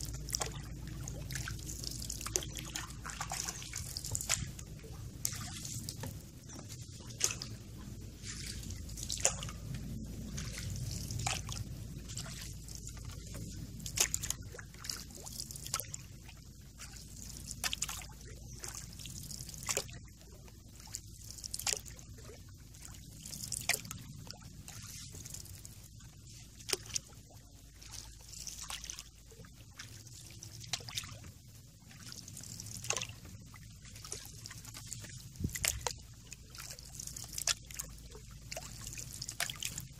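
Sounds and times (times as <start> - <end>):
low steady rumble: 0.0 - 39.9
water dripping and splashing: 0.0 - 39.9.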